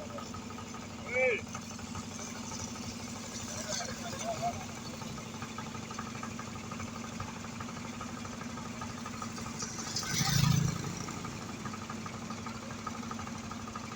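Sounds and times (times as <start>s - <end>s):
machine engine idling: 0.0s - 13.9s.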